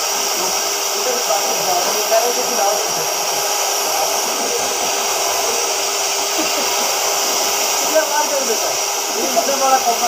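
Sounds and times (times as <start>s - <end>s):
cutting torch hissing: 0.0s - 10.0s.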